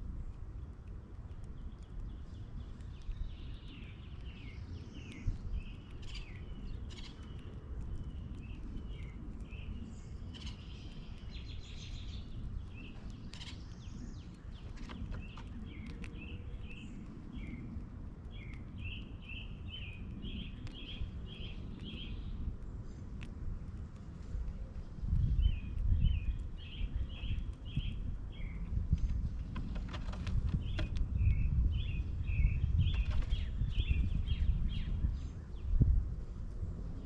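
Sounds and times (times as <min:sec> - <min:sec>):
low background rumble: 0:00.0 - 0:37.0
small birds chirping: 0:00.1 - 0:23.3, 0:24.0 - 0:36.2.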